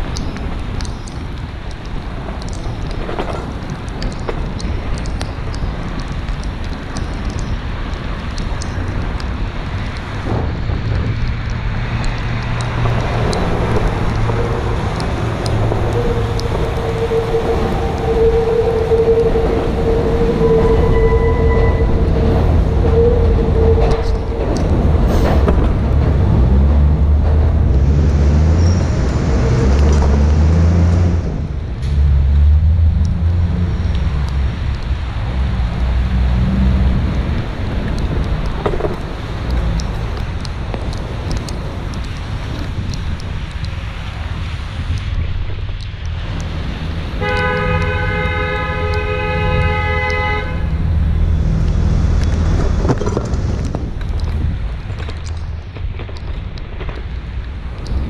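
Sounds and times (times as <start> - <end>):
heavy vehicle engines rumbling: 0.0 - 58.0.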